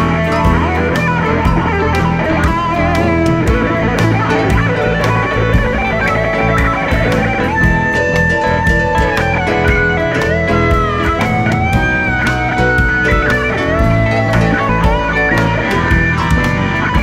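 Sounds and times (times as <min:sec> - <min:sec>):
blues-rock band playing: 0:00.0 - 0:17.0
electric guitar lead lines: 0:00.0 - 0:17.0.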